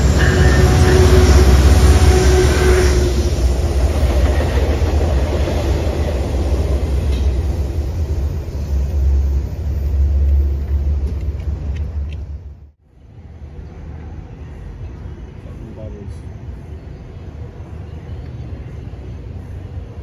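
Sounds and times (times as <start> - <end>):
train pulling away rumbling: 0.0 - 20.0.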